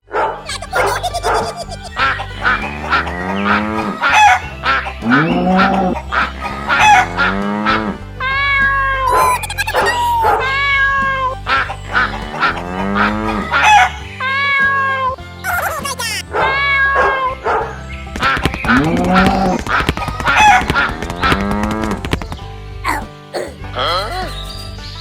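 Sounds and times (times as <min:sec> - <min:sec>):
novelty music with comic honking: 0:00.0 - 0:25.0.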